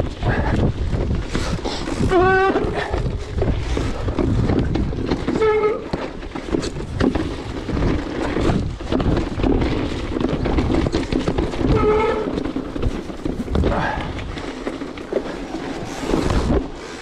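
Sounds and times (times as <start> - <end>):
bike clattering and rattling: 0.0 - 17.0
tyres rumbling over stones: 0.0 - 17.0.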